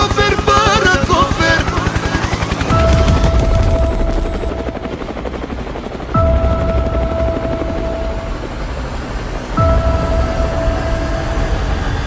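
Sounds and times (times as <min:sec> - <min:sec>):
helicopter rotor chop: 0:00.0 - 0:09.7
helicopter whining tone: 0:00.0 - 0:12.0.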